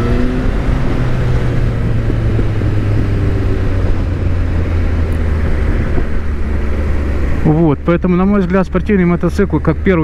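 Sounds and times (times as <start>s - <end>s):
wind rushing over microphone: 0.0s - 8.3s
motorcycle engine rumble: 0.0s - 10.0s.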